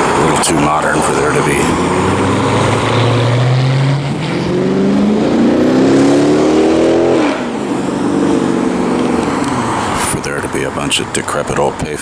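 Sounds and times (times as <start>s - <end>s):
passing car engine accelerating: 0.0s - 10.1s.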